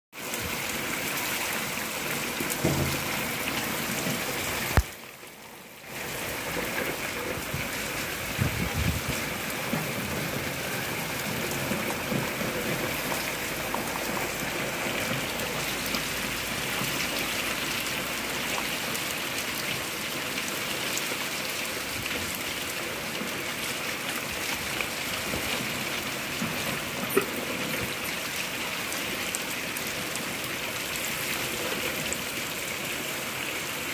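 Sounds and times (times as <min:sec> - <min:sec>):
heavy rain on standing water: 0:00.1 - 0:33.9.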